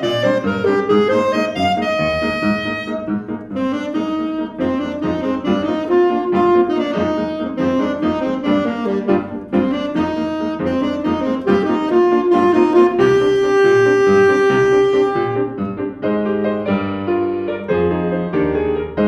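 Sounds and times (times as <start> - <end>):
alto saxophone jazz: 0.0 - 16.0
grand piano: 0.0 - 19.0.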